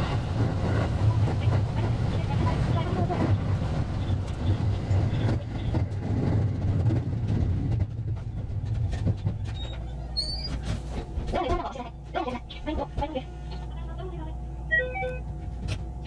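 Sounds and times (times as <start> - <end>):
electric train rumbling on rails: 0.0 - 16.0.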